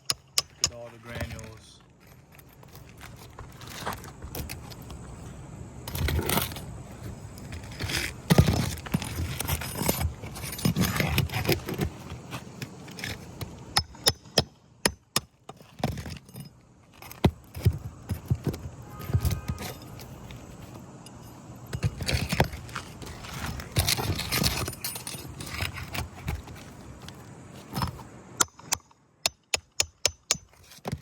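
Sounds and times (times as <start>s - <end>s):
shingles rustling and scraping: 0.0s - 28.2s, 30.4s - 31.0s.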